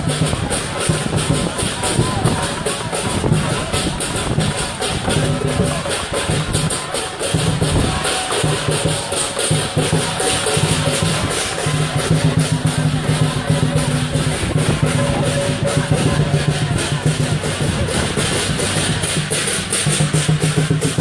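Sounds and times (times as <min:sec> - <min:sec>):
crashing cymbals: 0:00.0 - 0:21.0
large drum beating: 0:00.0 - 0:21.0.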